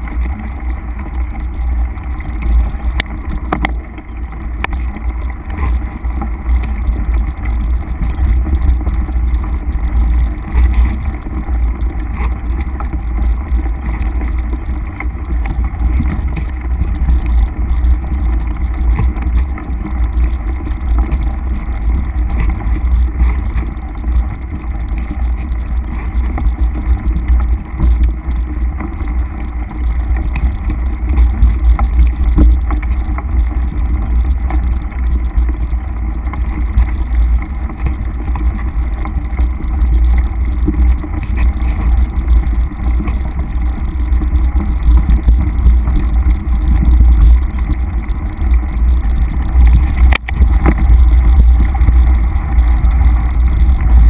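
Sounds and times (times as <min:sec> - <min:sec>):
bike clicks and rattles: 0:00.0 - 0:54.0.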